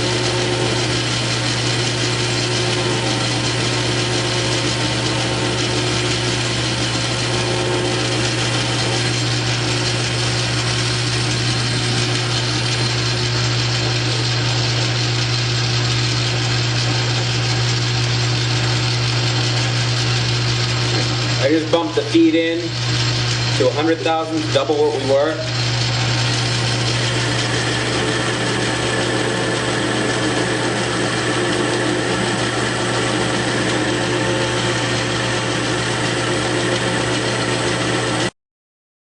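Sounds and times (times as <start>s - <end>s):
metal lathe humming: 0.0s - 38.3s.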